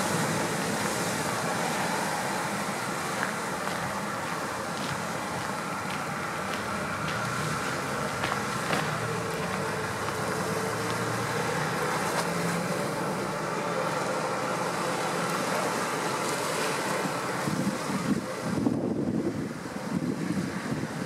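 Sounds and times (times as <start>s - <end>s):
bus engine drone: 0.0s - 21.0s
water churning: 0.0s - 21.0s.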